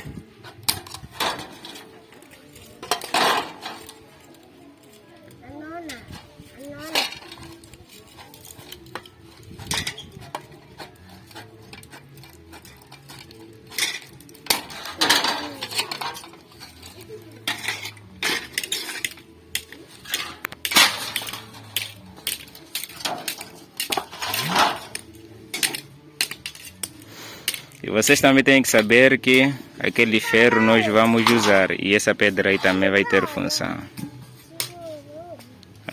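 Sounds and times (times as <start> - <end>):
sheet metal clinks and scrapes: 0.4 - 5.0, 5.8 - 33.4.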